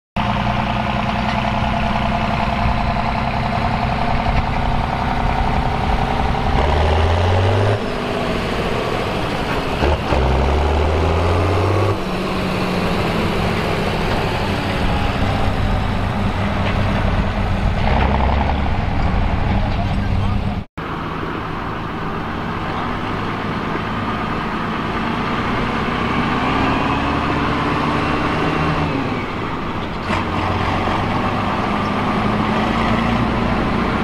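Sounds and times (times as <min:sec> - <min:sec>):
tractor diesel engine pulling: 0:00.2 - 0:34.0.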